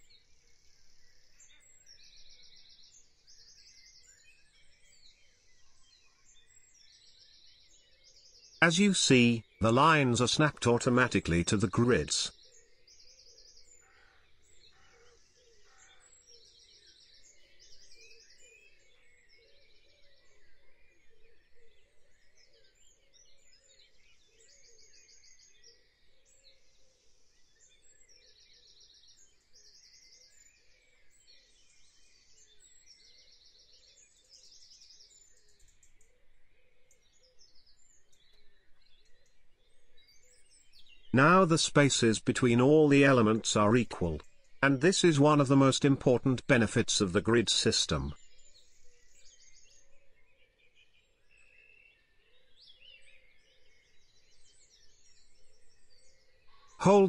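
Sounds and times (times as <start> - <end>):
faint birdsong trills: 0.0 - 44.6, 48.1 - 57.0.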